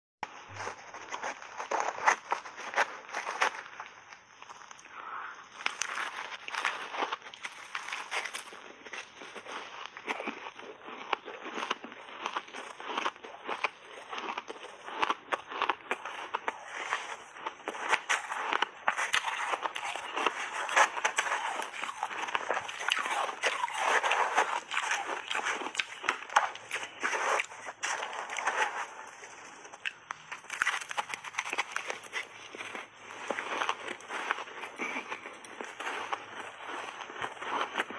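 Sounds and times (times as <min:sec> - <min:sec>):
shaved ice crunching while chewed: 0:00.3 - 0:37.9.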